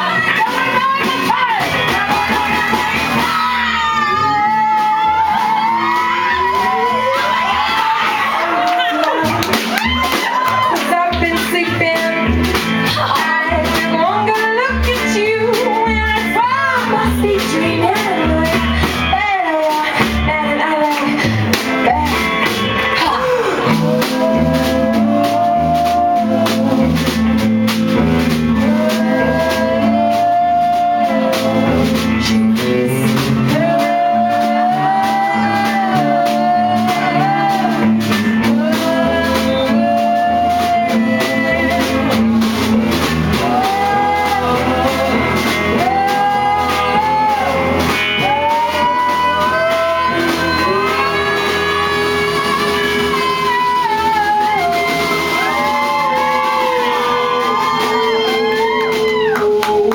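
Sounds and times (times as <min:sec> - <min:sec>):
drums: 0:00.0 - 0:59.9
electric guitar: 0:00.0 - 0:59.9.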